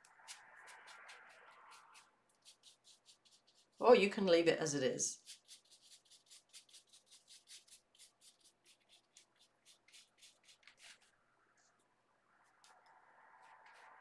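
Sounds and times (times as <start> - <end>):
paintbrush scrubbing on paper: 0.0 - 4.4, 5.1 - 11.8, 13.4 - 14.0.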